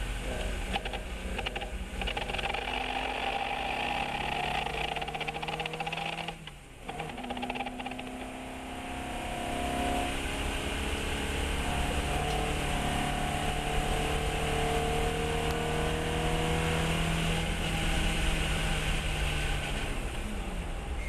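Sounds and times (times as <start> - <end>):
race car engine revving up: 0.2 - 20.4.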